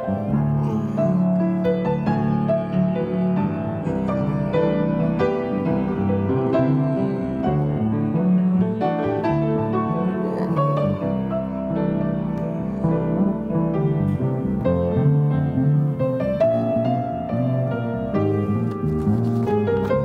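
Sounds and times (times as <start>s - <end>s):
fast piano music: 0.0s - 20.0s.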